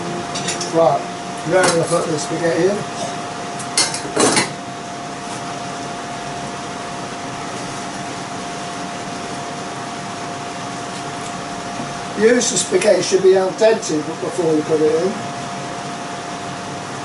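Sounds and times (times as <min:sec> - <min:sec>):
faint constant whine: 0:00.0 - 0:17.0.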